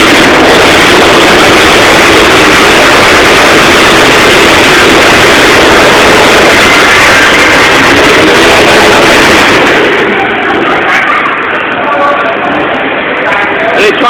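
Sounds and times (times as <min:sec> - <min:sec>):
engines revving: 0:00.0 - 0:11.8.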